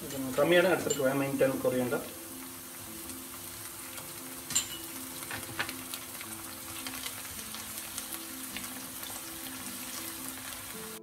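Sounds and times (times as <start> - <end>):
onion sizzling in pan: 0.0 - 11.0.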